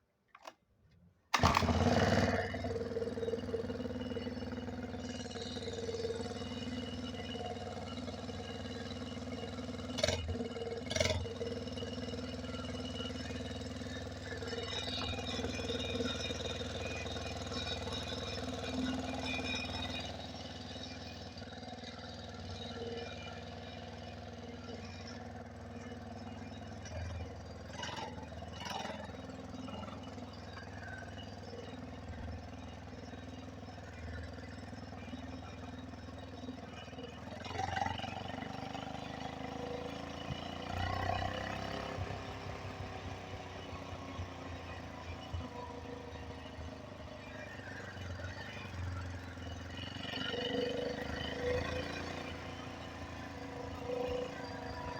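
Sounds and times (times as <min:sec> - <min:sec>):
small engine idling high: 0:01.3 - 0:54.9.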